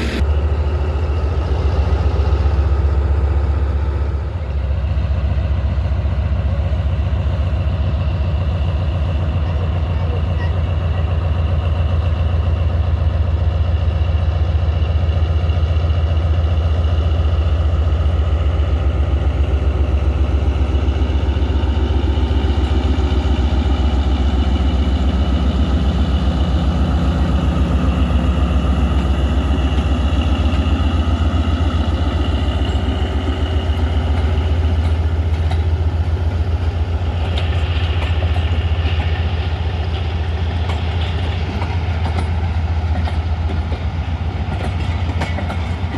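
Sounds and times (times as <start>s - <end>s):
locomotive engine throbbing: 0.0s - 45.9s.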